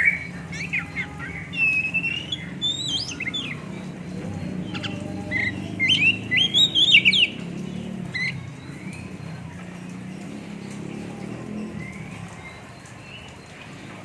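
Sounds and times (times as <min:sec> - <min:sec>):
bird singing: 0:00.0 - 0:13.5.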